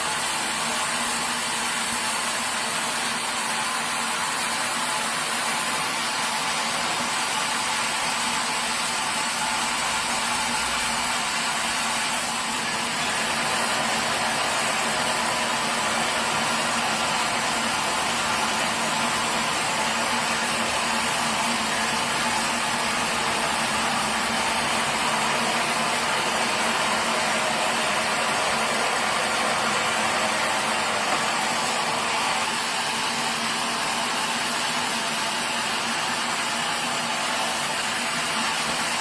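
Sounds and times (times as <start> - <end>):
sawmill machinery whirring: 0.0 - 39.0.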